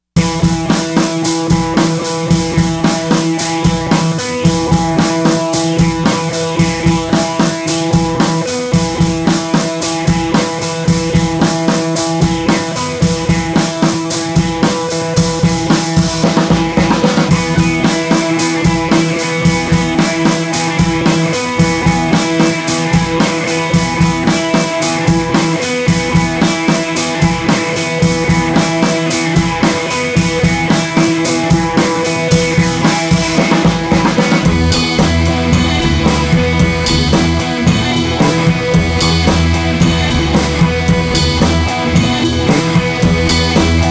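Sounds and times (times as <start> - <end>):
music with drum-kit beat: 0.2 - 43.9.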